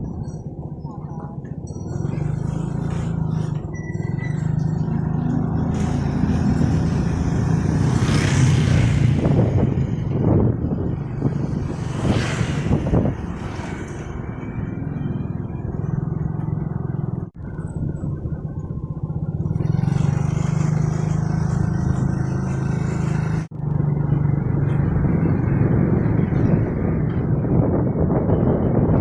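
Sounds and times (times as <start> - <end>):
wind on microphone: 0.0 - 16.0, 16.6 - 29.0.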